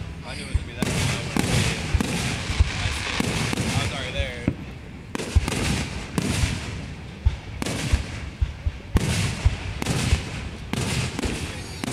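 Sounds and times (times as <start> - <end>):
firework crackling: 0.0 - 11.9
firework shells bursting: 0.5 - 11.9.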